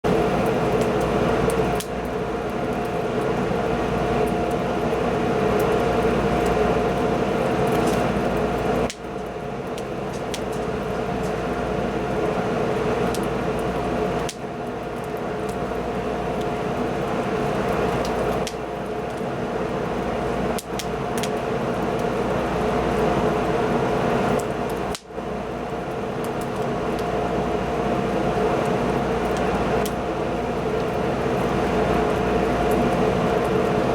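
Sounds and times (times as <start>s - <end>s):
wood fire burning: 0.0s - 33.9s.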